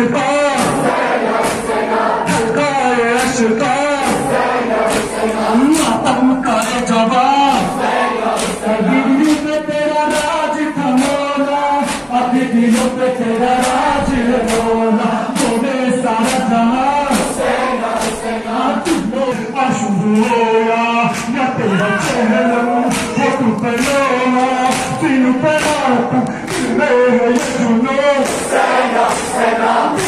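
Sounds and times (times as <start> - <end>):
crowd chanting: 0.0 - 30.0
men singing: 0.0 - 30.0.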